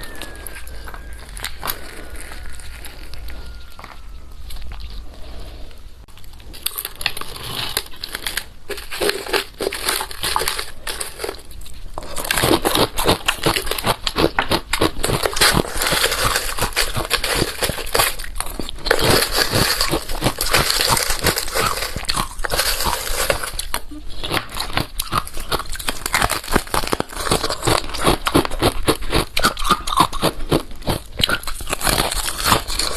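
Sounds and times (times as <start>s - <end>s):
ice crackling and crunching: 0.0s - 32.9s.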